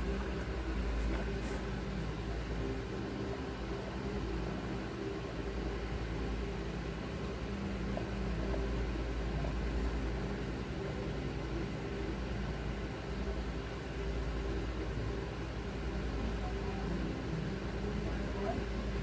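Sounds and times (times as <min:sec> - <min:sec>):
low mechanical hum with hiss: 0:00.0 - 0:19.0.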